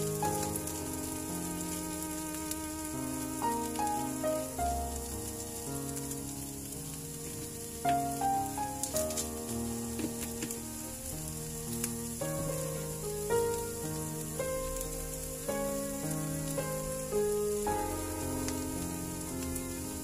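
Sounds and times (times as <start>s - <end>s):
background music melody: 0.0s - 20.0s
food sizzling in a pan: 0.0s - 20.0s.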